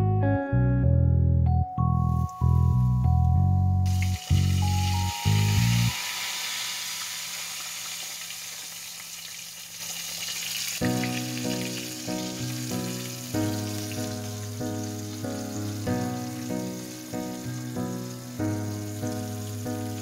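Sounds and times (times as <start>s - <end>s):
background music: 0.0s - 6.9s, 10.8s - 20.0s
fish deep-frying in oil: 3.9s - 20.0s.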